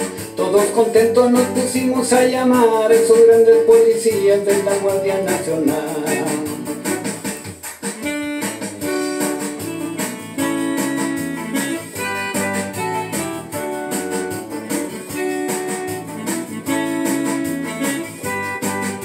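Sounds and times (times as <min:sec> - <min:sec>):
cumbia instrumental music: 0:00.0 - 0:19.0.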